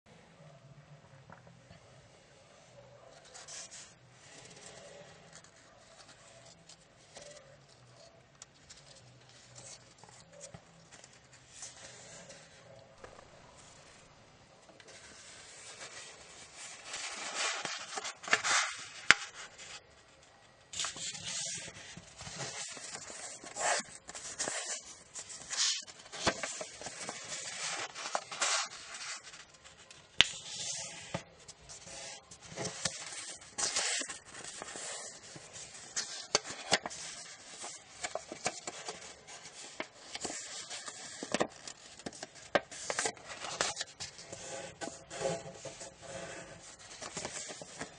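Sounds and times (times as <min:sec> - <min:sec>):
paper crinkling and rustling: 0:03.2 - 0:47.9.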